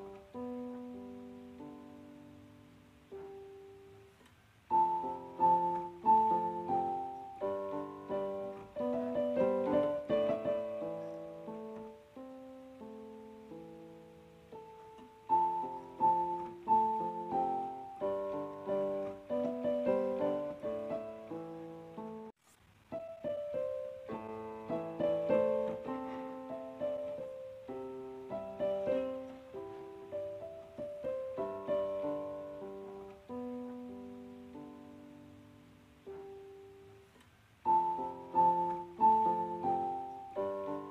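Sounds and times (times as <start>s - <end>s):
soft solo piano music: 0.0s - 40.9s.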